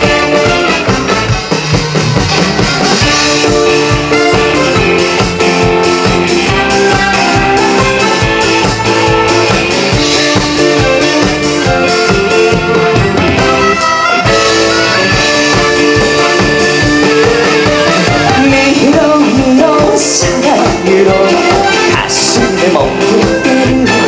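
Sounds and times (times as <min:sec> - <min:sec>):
live band playing with steady beat: 0:00.0 - 0:24.0.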